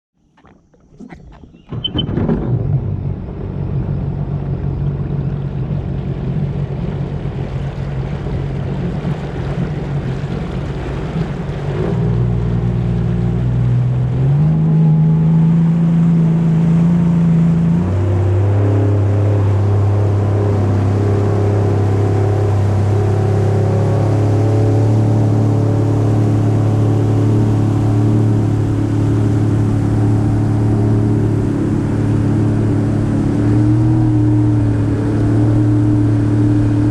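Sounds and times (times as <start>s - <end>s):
jet ski engine running: 0.2s - 36.9s
water rushing past hull: 0.2s - 36.9s.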